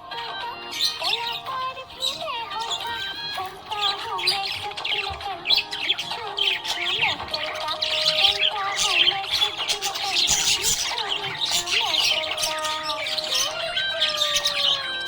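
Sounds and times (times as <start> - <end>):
budgerigars chirping and chattering: 0.6 - 15.0.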